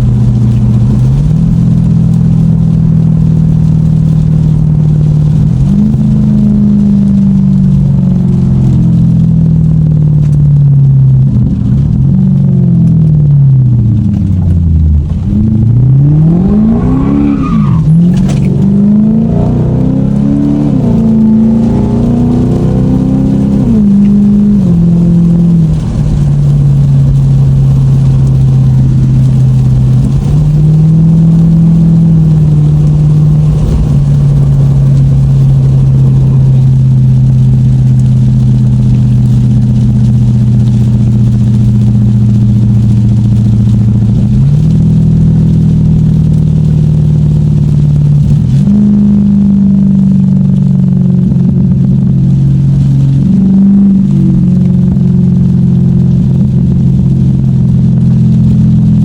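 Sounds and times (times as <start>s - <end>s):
car engine revving and droning: 0.0s - 59.0s.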